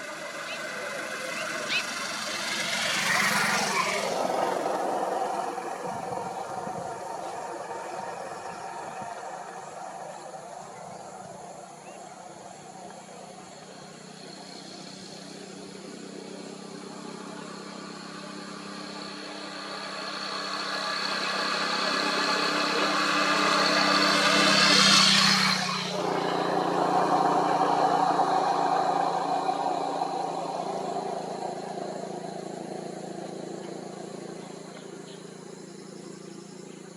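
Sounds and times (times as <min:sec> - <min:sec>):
vehicle driving past: 0:00.0 - 0:36.8.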